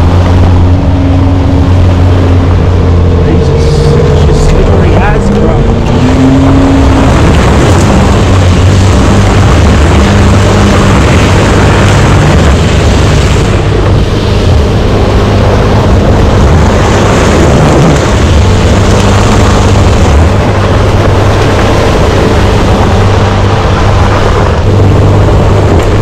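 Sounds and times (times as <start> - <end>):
car engine running: 0.0 - 26.0
tyre and wind noise: 0.0 - 26.0.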